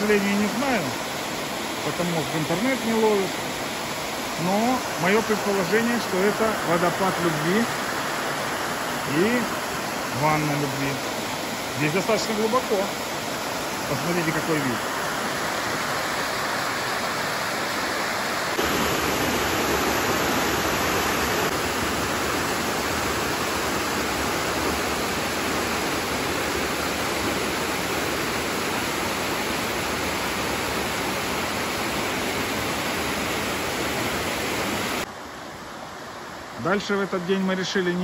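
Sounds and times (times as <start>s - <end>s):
waterfall rushing over rocks: 0.0s - 38.0s.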